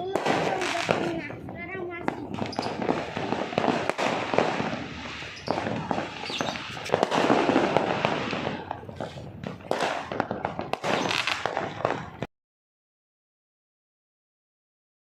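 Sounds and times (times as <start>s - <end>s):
fireworks bangs and crackles: 0.0s - 12.3s.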